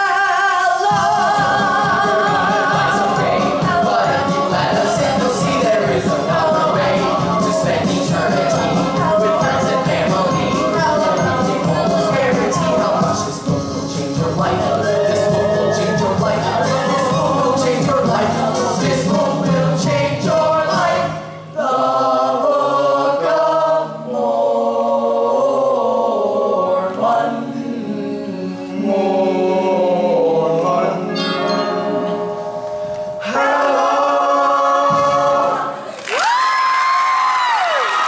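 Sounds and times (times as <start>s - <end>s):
boys singing together: 0.0s - 32.4s, 33.2s - 36.0s
musical accompaniment: 0.0s - 36.0s.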